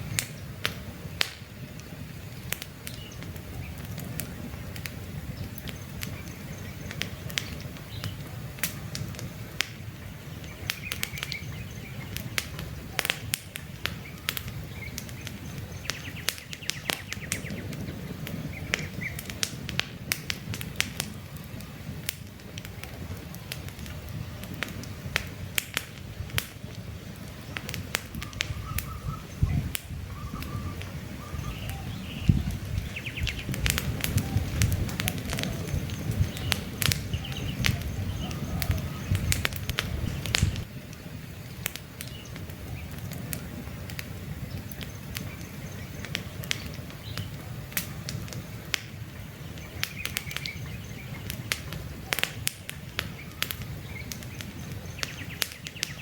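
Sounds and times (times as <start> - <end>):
birds chirping: 0.0 - 19.7, 20.3 - 56.0
campfire crackling: 0.0 - 56.0.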